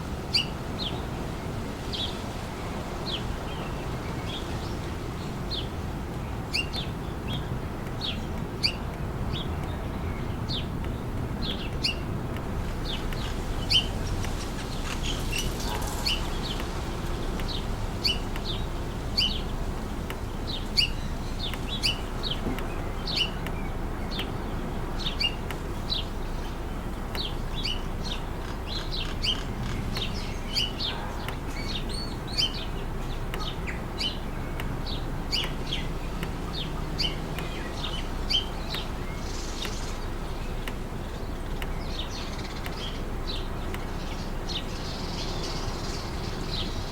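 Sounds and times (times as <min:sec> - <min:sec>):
birds chirping: 0:00.0 - 0:46.9
low rush of wind: 0:00.0 - 0:46.9.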